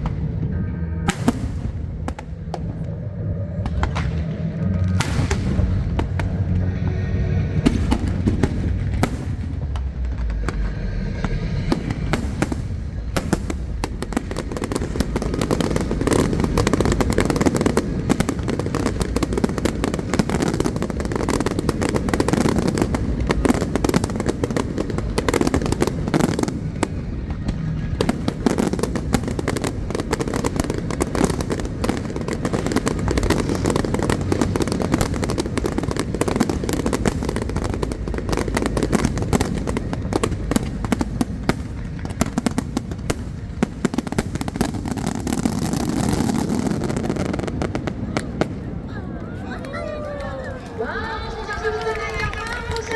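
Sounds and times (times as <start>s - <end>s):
deep fireworks booms: 0.0s - 52.9s
fireworks crackling and banging: 0.0s - 52.9s.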